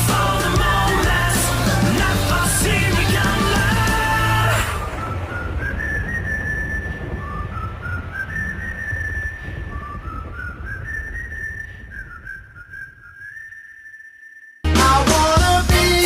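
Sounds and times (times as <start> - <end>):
low rumble: 0.0 - 13.1
whistled melody: 0.0 - 16.0.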